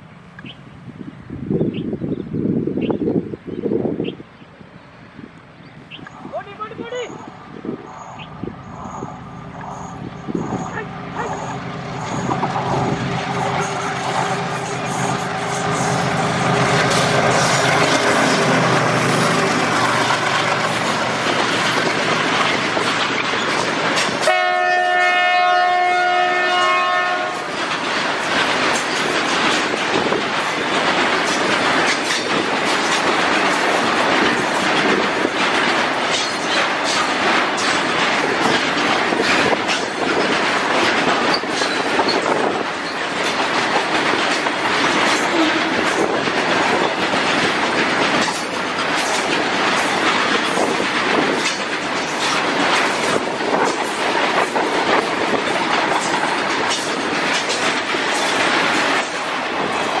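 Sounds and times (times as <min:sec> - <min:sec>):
train wheels clattering over rail joints: 0:07.5 - 1:00.0.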